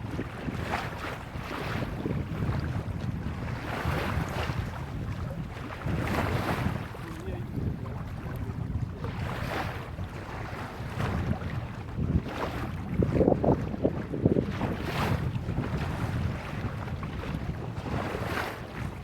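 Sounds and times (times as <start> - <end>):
water splashing along a hull: 0.0 - 19.0
wind buffeting the microphone: 0.0 - 19.0.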